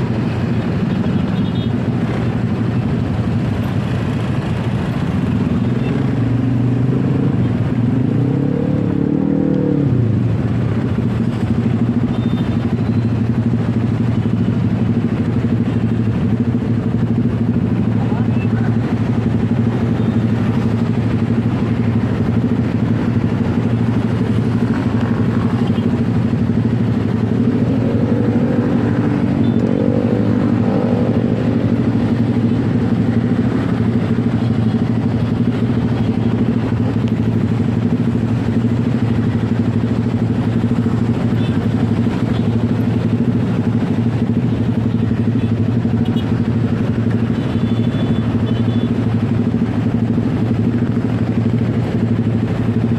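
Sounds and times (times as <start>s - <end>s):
motorcycle engine running: 0.0s - 52.9s
road and wind noise: 0.0s - 52.9s.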